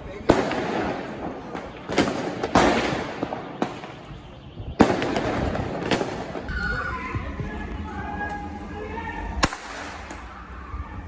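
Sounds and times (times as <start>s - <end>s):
fireworks bangs echoing: 0.0s - 10.8s.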